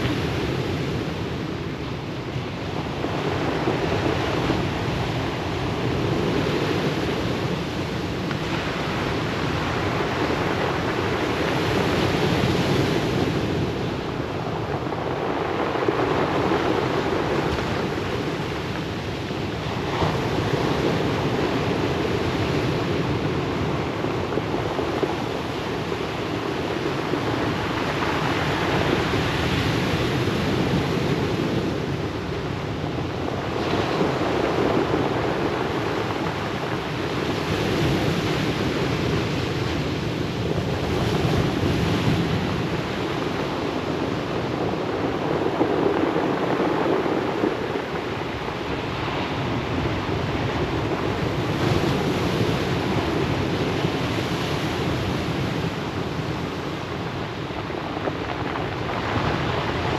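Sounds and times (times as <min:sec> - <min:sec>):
waves breaking on pebble beach: 0:00.0 - 0:59.9
wind on microphone: 0:00.0 - 0:59.9.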